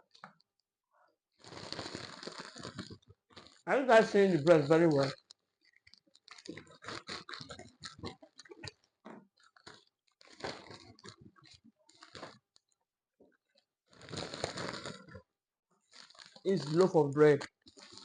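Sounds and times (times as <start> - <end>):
person chewing food: 1.4 - 12.8, 13.5 - 15.3, 15.9 - 18.0.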